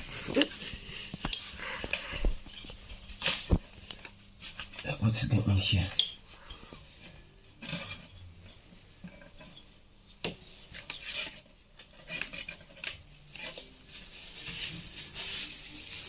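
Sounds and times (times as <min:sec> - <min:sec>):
small parts scraping and rubbing: 0:00.0 - 0:16.0.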